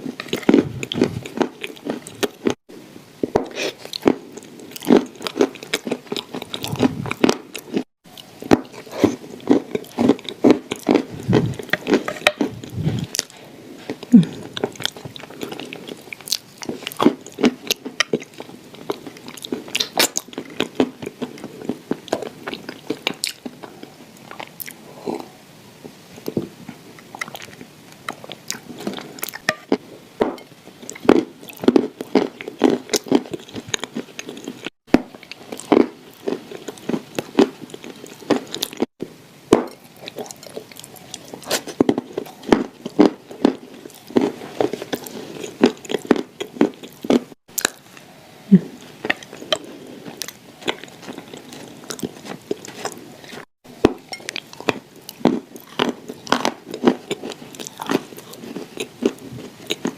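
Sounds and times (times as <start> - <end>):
chewing: 0.0 - 2.6, 3.3 - 25.3, 26.2 - 29.8, 39.7 - 59.9
cookies crunching: 0.0 - 24.8, 27.0 - 38.9, 39.5 - 59.9.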